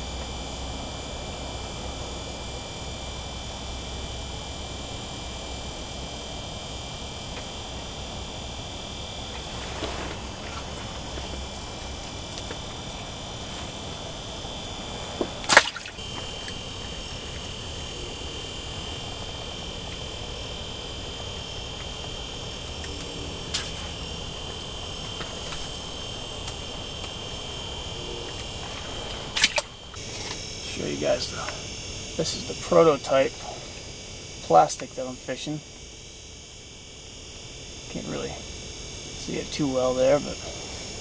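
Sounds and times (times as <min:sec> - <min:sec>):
faint high whine: 0:00.0 - 0:41.0.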